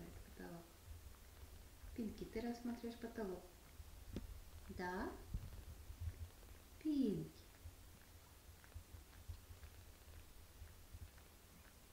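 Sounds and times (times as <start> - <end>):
cat licking fur: 0.0 - 11.9.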